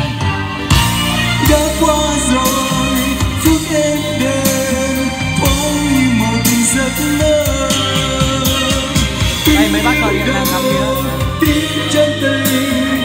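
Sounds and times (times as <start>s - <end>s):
karaoke backing music: 0.0s - 13.0s
man singing into a microphone: 1.4s - 13.0s.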